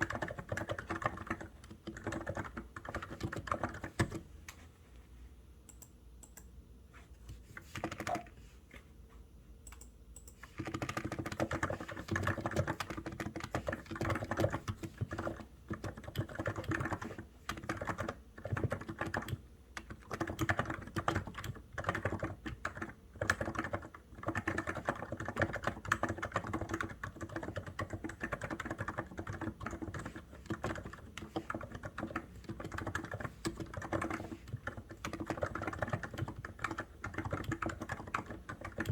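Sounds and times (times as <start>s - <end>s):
keyboard typing: 0.0s - 4.2s, 7.5s - 8.4s, 9.6s - 38.9s.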